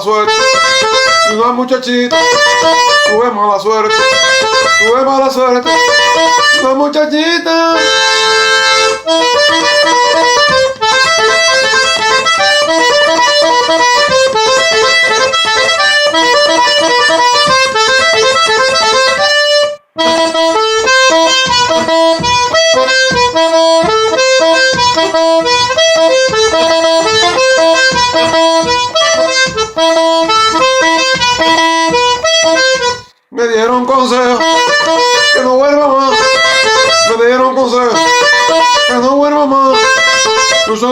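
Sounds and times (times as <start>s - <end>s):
button accordion playing merengue: 0.0s - 40.9s.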